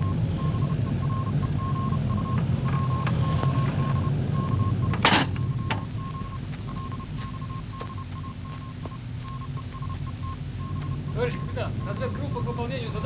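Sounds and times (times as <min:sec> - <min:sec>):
pulsing high beeps: 0:00.0 - 0:13.0
steady low hum: 0:00.0 - 0:13.0.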